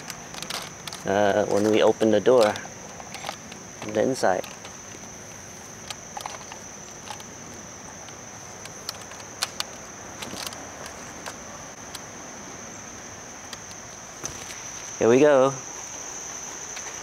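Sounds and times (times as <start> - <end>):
insects calling high-pitched: 0.0 - 17.0.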